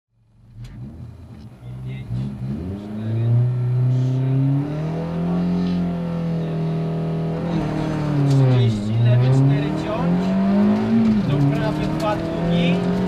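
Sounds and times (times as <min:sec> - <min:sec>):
rally car engine revving: 0:00.3 - 0:13.0.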